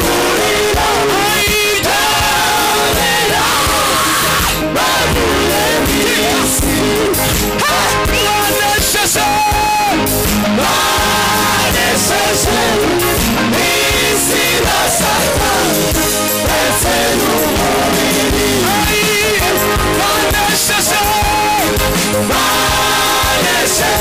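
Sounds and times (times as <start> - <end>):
gospel group singing: 0.0 - 24.0
instrumental accompaniment with beat: 0.0 - 24.0.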